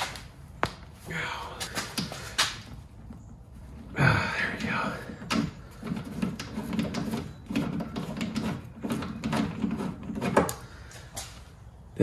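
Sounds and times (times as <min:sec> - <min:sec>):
hand tool creaking and clicking: 0:01.5 - 0:11.2.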